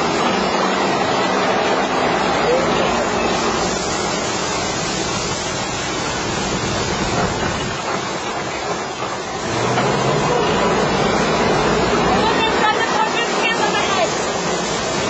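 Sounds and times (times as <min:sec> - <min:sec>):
truck rumbling and rattling: 0:00.0 - 0:15.0.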